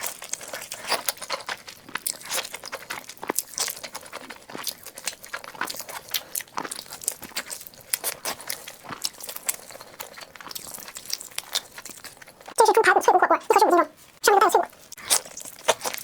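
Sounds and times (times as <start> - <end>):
person chewing crunchy chicken: 0.0 - 16.0.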